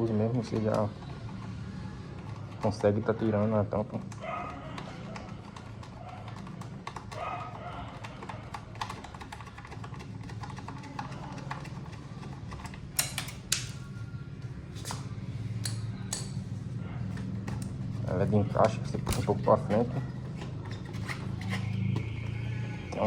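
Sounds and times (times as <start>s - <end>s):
background music or low hum: 0.0s - 23.0s.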